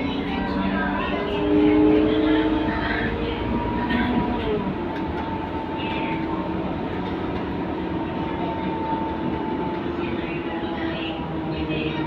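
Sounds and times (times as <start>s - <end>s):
bus engine and drivetrain whine: 0.0s - 12.0s
road and tyre noise: 0.0s - 12.0s.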